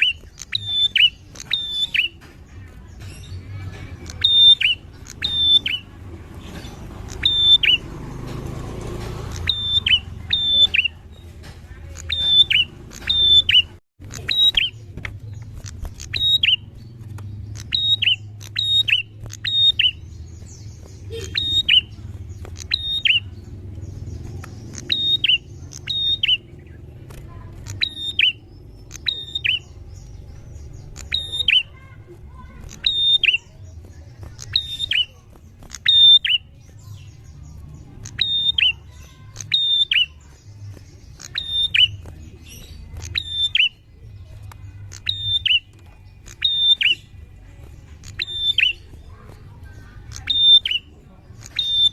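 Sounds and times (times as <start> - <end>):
bird calling in sharp notes: 0.0 - 6.0, 7.0 - 8.0, 9.3 - 47.4, 48.0 - 51.9.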